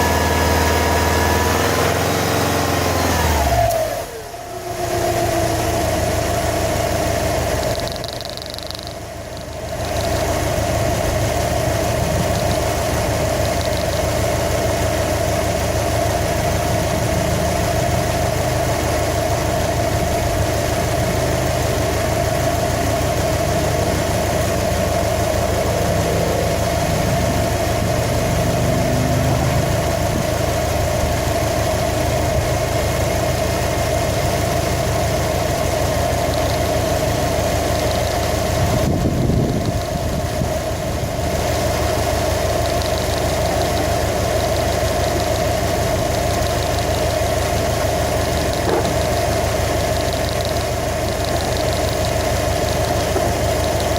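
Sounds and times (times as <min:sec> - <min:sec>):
car engine idling: 0:00.0 - 0:53.9
steady whine: 0:04.2 - 0:53.9.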